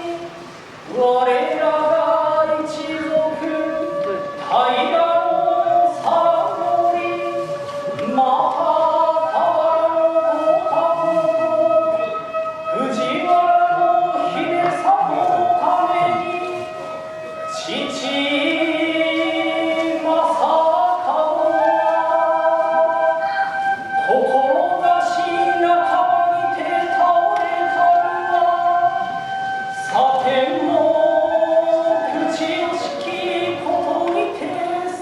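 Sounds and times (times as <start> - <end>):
chanting in long held notes: 0.0 - 35.0.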